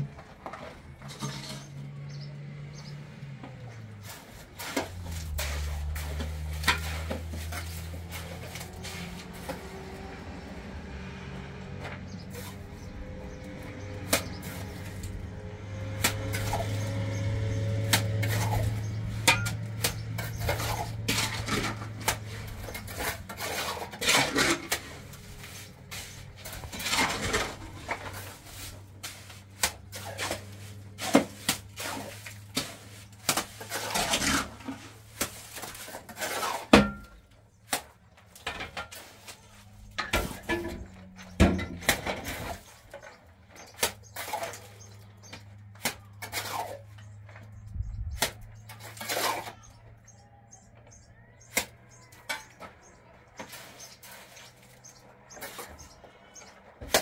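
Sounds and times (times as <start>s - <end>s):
steel trowel scraping mortar: 0.0s - 2.3s, 3.6s - 10.0s, 12.2s - 47.2s, 48.2s - 49.8s, 53.3s - 57.0s.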